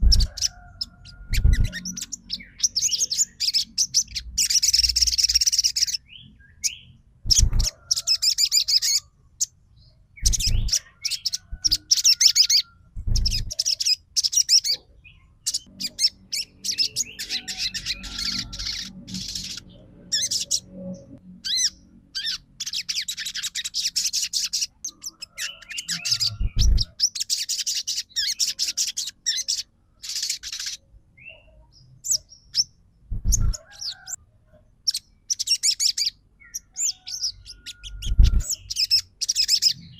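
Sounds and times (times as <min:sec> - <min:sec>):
songbird rapid high chirping: 0:00.0 - 0:34.2, 0:34.8 - 0:39.9.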